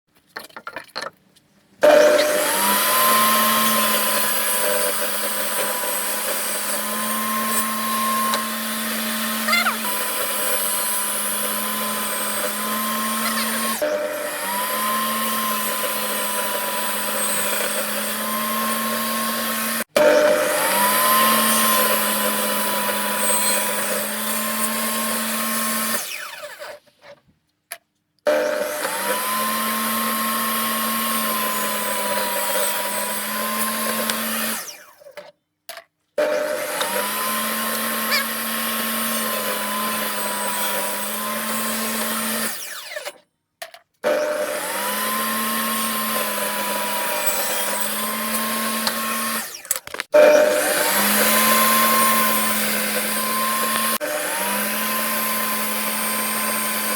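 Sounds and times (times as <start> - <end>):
power tool motor humming: 1.8 - 26.8, 28.3 - 35.1, 36.2 - 43.2, 44.0 - 56.9.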